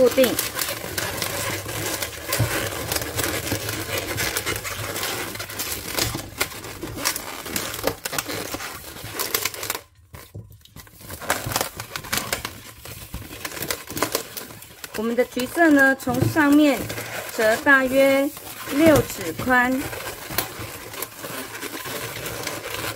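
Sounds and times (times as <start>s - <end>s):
balloons rubbing and squeaking: 0.0s - 22.9s.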